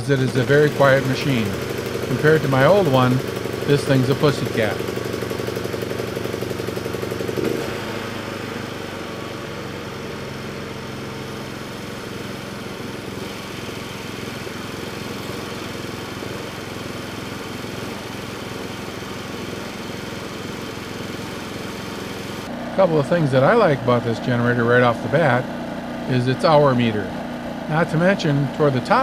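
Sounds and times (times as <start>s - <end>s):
generator engine humming: 0.0s - 29.0s.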